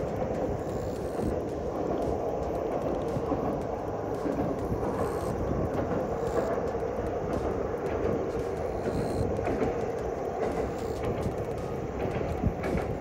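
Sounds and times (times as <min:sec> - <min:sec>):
railcar rumbling over steel bridge: 0:00.0 - 0:13.0.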